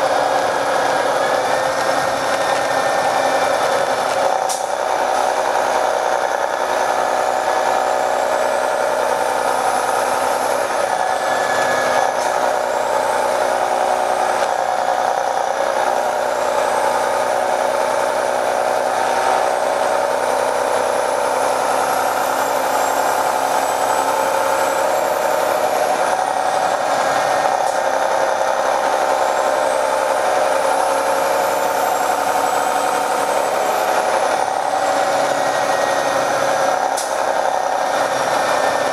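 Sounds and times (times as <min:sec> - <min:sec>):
bus diesel engine whine: 0:00.0 - 0:38.9.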